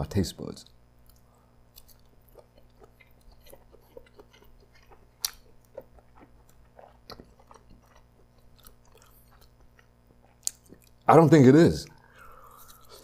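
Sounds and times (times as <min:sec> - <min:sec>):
close chewing with mouth clicks: 0:01.0 - 0:11.1, 0:12.0 - 0:13.0.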